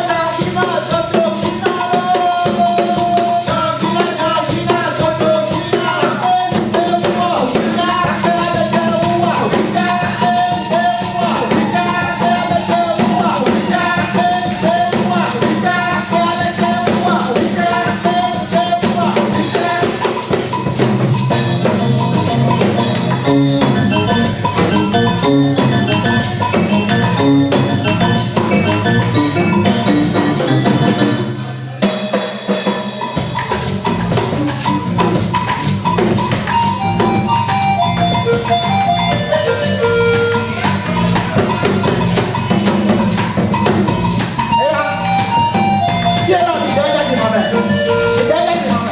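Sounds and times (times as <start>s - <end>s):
percussion-led music: 0.0s - 48.9s.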